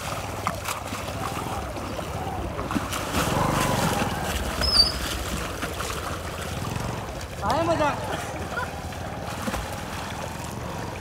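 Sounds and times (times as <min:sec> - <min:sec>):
swimmers splashing water: 0:00.0 - 0:11.0.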